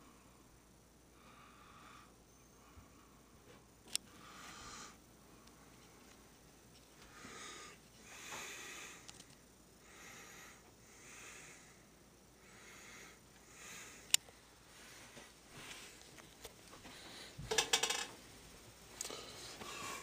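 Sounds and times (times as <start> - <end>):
slow breathing: 1.1 - 6.1, 7.0 - 17.5, 19.0 - 20.0.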